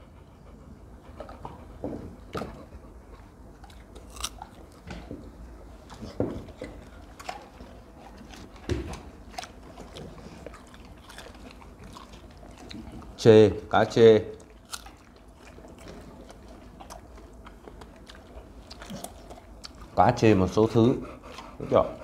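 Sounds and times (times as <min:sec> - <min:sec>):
crunchy chewing of fruit: 0:01.2 - 0:22.0.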